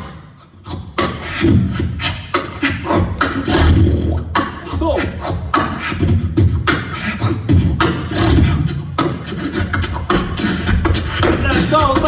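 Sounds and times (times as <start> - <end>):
beatbox low bass: 0.0 - 12.0
beatbox snare-like hits: 0.0 - 12.0.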